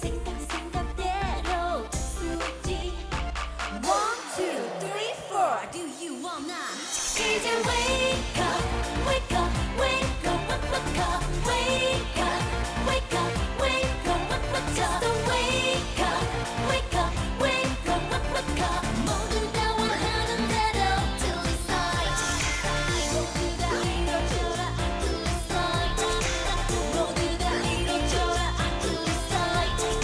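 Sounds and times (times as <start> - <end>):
dance-pop music with heavy bass: 0.0 - 30.0
woman singing: 0.0 - 30.0.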